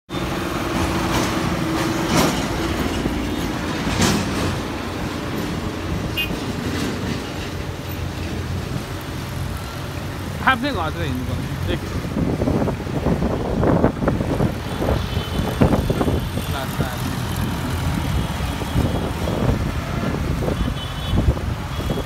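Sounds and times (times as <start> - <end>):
storm wind gusting on microphone: 0.6 - 22.0.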